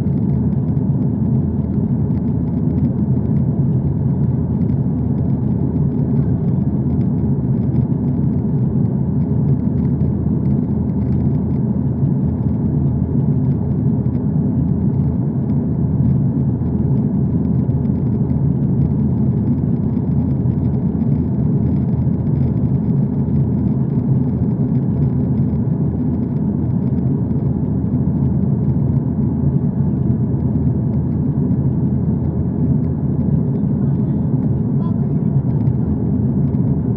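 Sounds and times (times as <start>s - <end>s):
aeroplane drone: 0.0s - 36.9s.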